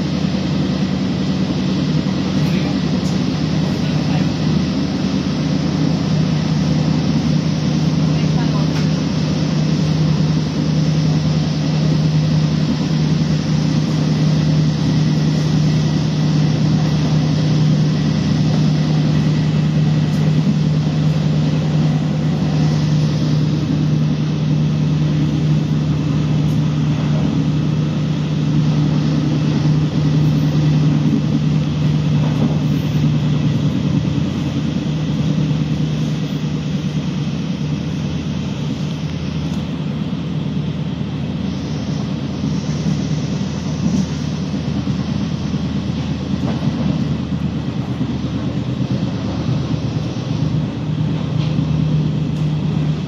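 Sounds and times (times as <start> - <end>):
train carriage low hum: 0.0 - 53.0
train rushing rumble: 0.0 - 53.0.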